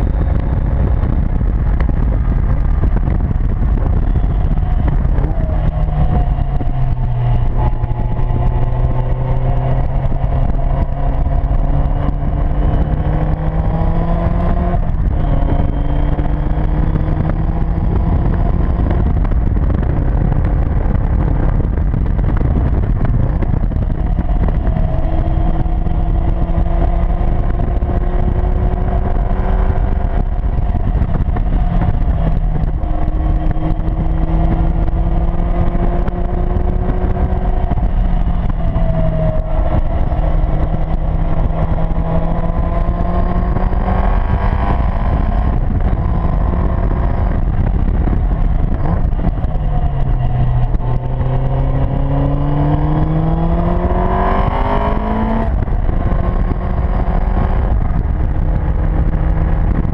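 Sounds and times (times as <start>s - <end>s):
sports car engine revving: 0.0s - 59.9s
wind rumble on microphone: 0.0s - 59.9s.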